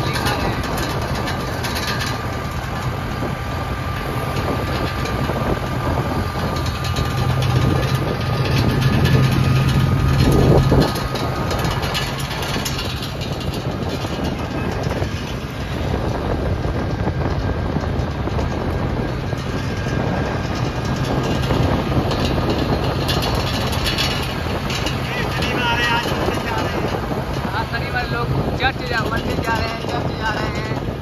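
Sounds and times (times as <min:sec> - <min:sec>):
road rumble: 0:00.0 - 0:31.0
vehicle engine running: 0:00.0 - 0:31.0.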